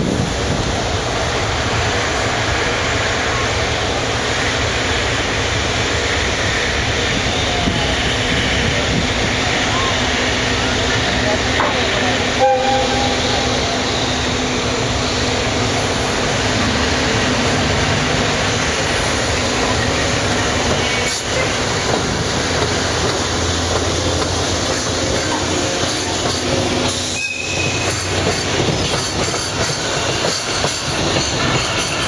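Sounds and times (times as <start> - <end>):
freight train rumbling past: 0.0 - 32.0.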